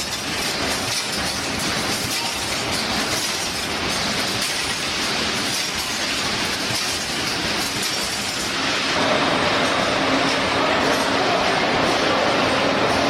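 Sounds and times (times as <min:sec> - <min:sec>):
welding line clattering and hissing: 0:00.0 - 0:11.2.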